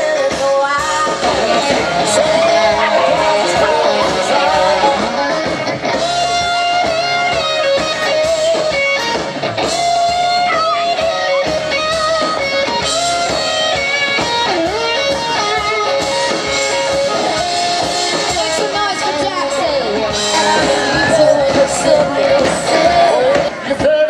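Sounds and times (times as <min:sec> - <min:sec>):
electric guitar melody: 0:00.0 - 0:24.0
strummed guitar: 0:00.0 - 0:24.0.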